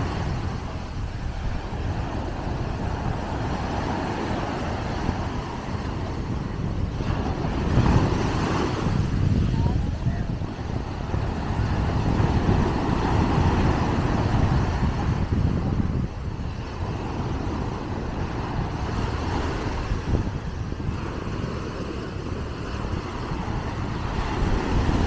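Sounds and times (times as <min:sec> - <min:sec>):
surf breaking on a sandy beach: 0:00.0 - 0:25.0.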